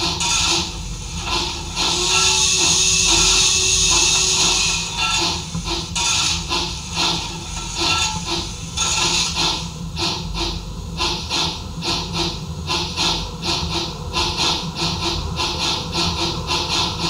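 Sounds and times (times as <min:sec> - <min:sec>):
model steam locomotive chuffing: 0:00.0 - 0:17.0.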